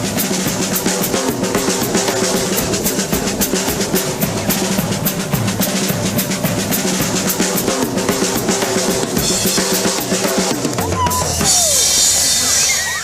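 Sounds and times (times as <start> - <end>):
drum kit fast beat: 0.0 - 13.0.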